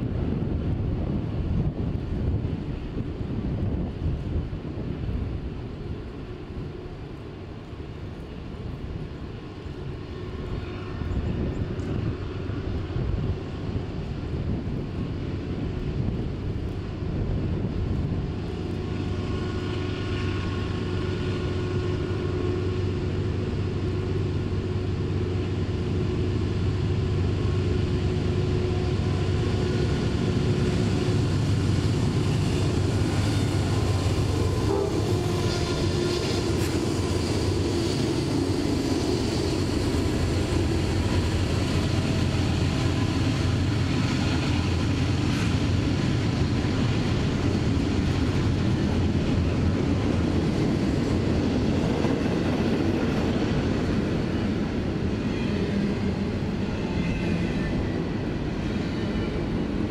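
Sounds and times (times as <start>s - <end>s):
diesel locomotive engine hum: 0.0s - 59.9s.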